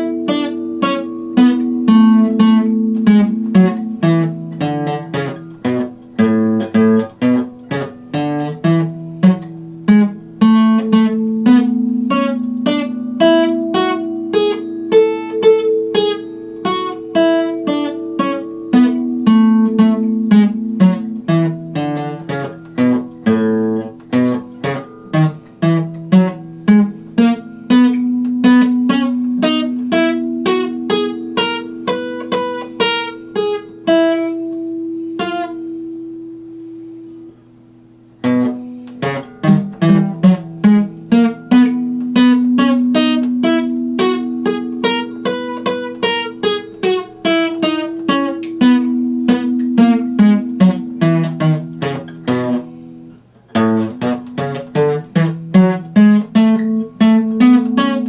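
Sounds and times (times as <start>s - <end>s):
acoustic guitar playing: 0.0s - 58.0s.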